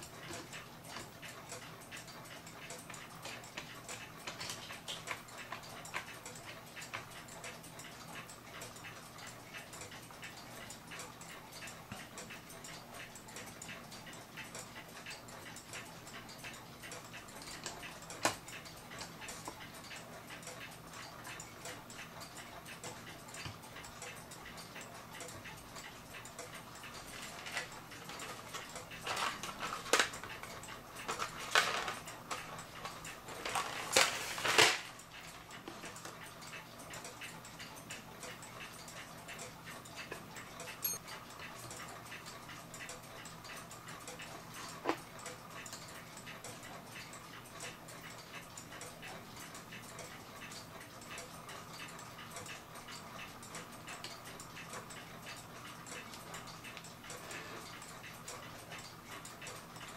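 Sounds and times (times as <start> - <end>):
clock parts clicking and rattling: 0.0 - 59.9
mechanical clock ticking: 0.0 - 59.9.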